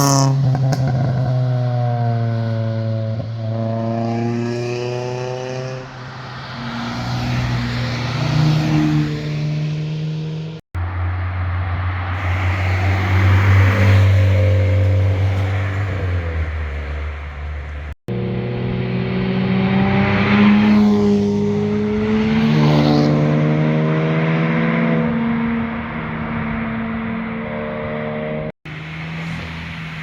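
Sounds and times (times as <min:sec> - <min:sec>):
sports car engines passing: 0:00.0 - 0:30.0.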